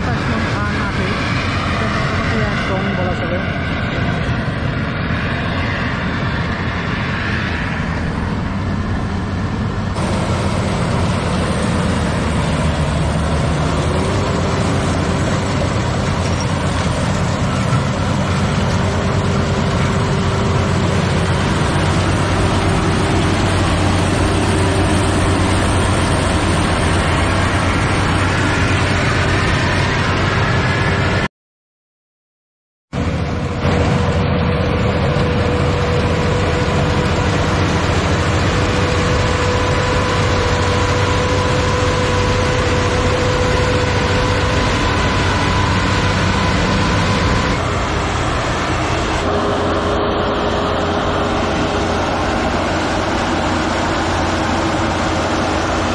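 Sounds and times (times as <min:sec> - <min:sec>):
combine harvester engine drone: 0:00.0 - 0:31.3, 0:32.9 - 0:55.9.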